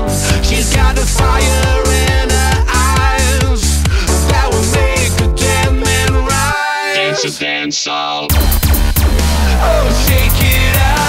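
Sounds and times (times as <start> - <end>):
electronic music with heavy bass: 0.0 - 7.4, 8.3 - 11.0.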